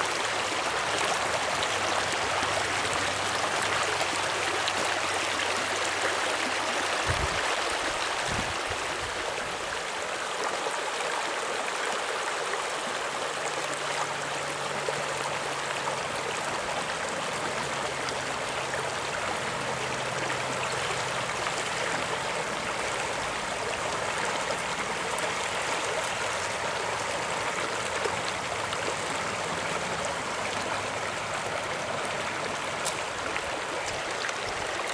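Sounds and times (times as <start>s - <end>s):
creek running over stones: 0.0s - 34.9s.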